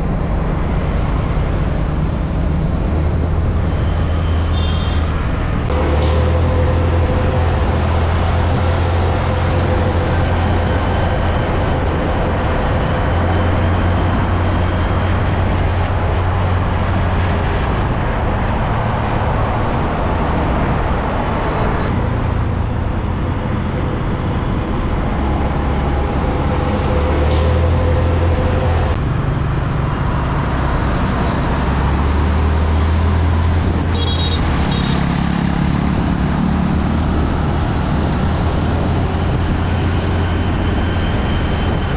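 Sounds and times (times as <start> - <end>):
heavy trucks driving past: 0.0 - 41.9
tyre and road noise: 0.0 - 41.9.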